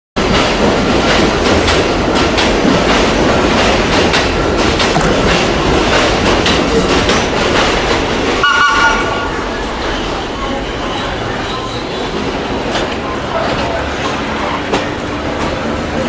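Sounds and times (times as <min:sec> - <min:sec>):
train passing: 0:00.2 - 0:16.0
wheels clicking over rail joints: 0:00.2 - 0:16.0.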